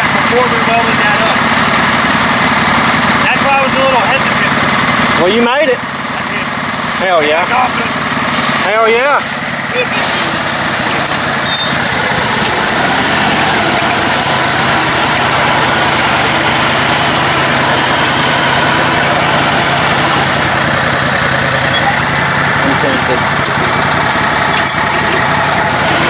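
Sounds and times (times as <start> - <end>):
riding lawn mower engine running: 0.0 - 26.0.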